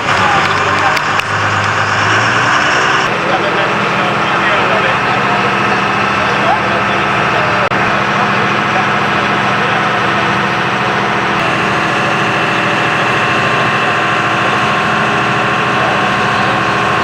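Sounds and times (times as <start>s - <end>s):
engine humming: 0.0s - 17.0s
high whine: 0.0s - 17.0s.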